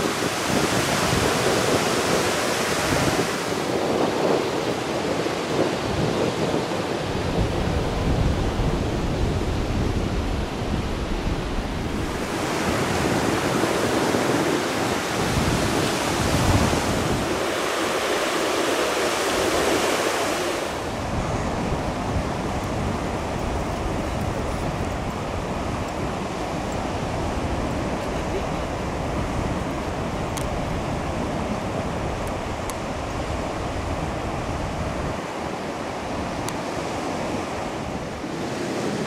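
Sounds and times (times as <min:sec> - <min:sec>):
surf washing onto beach: 0:00.0 - 0:39.0
wind gusting on microphone: 0:00.0 - 0:39.0.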